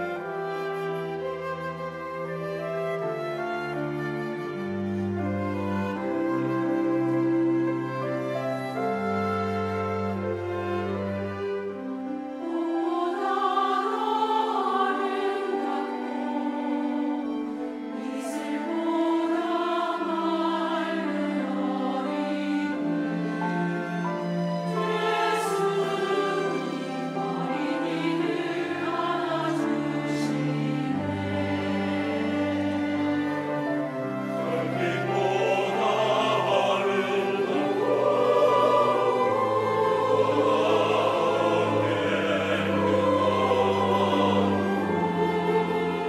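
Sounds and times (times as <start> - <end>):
cellos sustaining low notes: 0.0 - 46.0
choir singing a hymn: 0.0 - 46.0.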